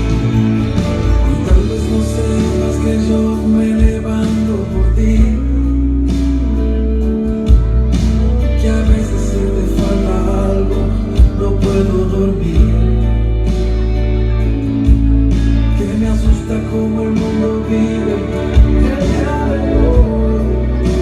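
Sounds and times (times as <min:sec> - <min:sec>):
slow ballad over sound system: 0:00.0 - 0:21.0.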